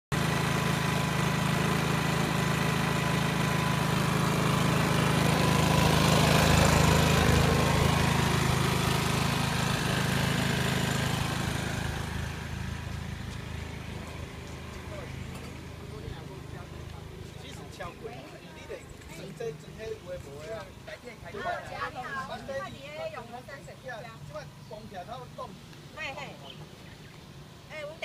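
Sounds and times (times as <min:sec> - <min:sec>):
generator running: 0:00.1 - 0:23.7.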